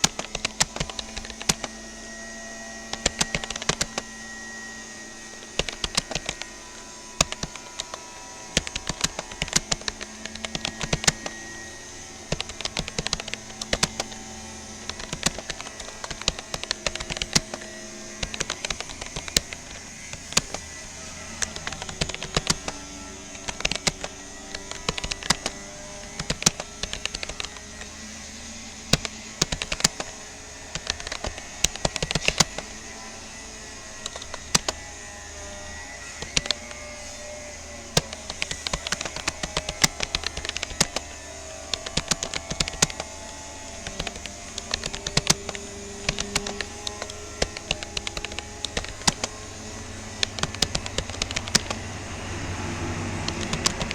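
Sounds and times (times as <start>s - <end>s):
computer keyboard key clicks: 0.0s - 35.0s, 36.1s - 53.9s.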